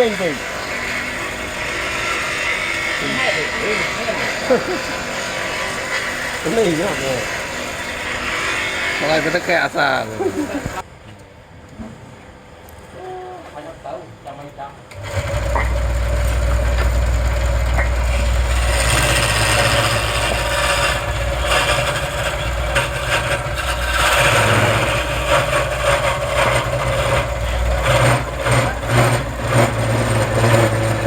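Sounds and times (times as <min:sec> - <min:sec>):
turning tool scraping wood: 0:00.0 - 0:10.8, 0:14.9 - 0:31.0
wood lathe motor hum: 0:00.0 - 0:10.8, 0:14.9 - 0:31.0.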